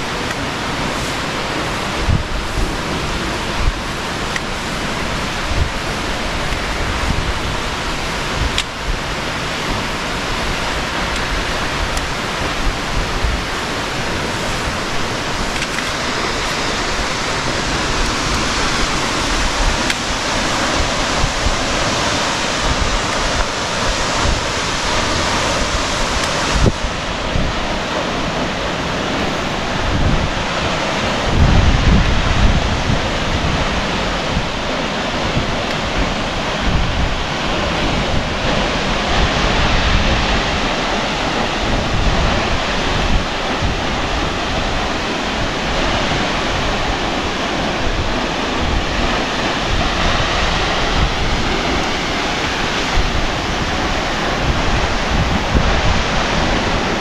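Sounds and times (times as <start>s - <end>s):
waterfall rushing: 0.0s - 57.0s
wind buffeting microphone: 0.0s - 57.0s.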